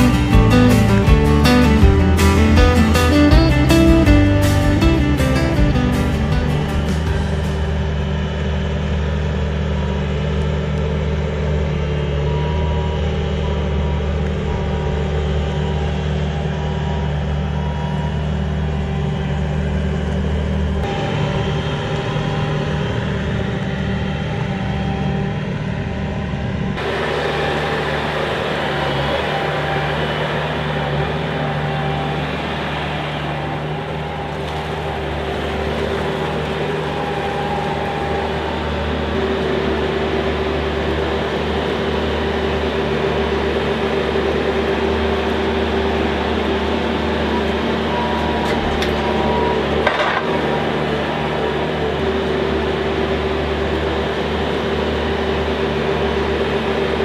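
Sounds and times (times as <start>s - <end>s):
engine-driven machinery droning: 0.0s - 57.0s.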